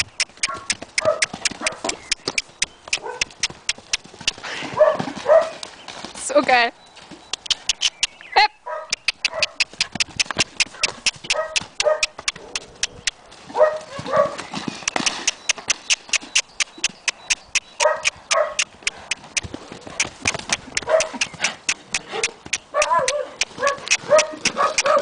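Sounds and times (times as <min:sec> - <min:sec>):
horse hoofbeats: 0:00.0 - 0:08.2, 0:08.8 - 0:25.0.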